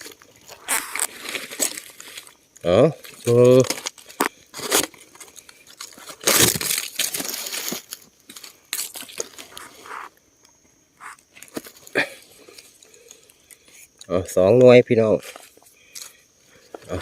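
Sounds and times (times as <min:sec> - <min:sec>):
dry leaves and soil crunching: 0:00.0 - 0:10.3, 0:11.0 - 0:17.0.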